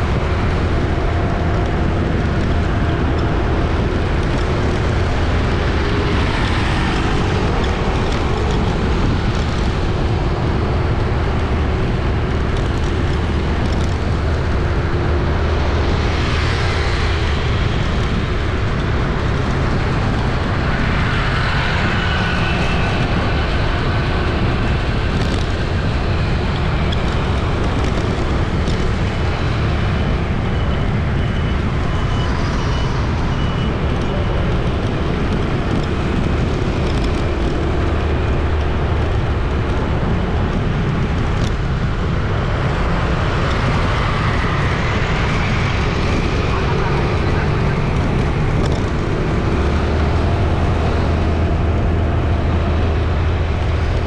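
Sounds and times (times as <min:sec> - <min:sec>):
car engines humming: 0:00.0 - 0:54.0
vehicles passing by: 0:00.0 - 0:54.0.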